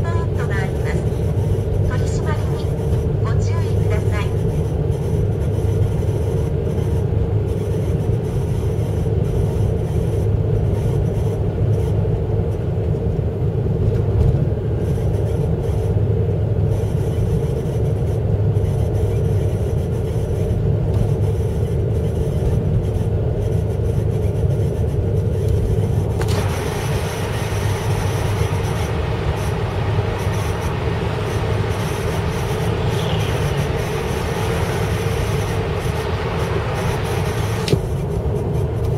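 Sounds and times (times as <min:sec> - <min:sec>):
car engine rumble and drone: 0:00.0 - 0:38.9.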